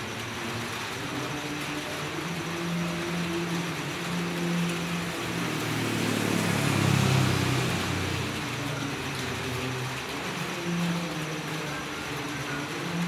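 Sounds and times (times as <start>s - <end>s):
passing vehicle engine rumble: 0.0s - 13.0s
steady rain falling: 0.0s - 13.0s.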